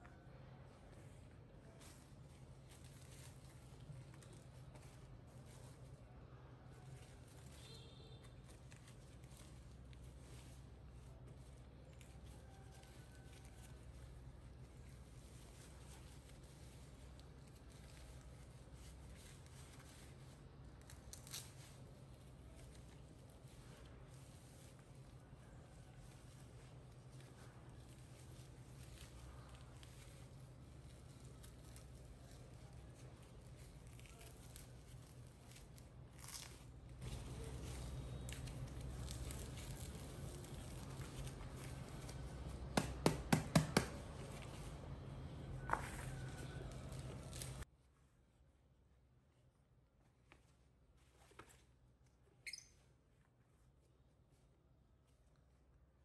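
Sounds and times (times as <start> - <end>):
diaper rustling and crinkling: 0.1 - 47.7.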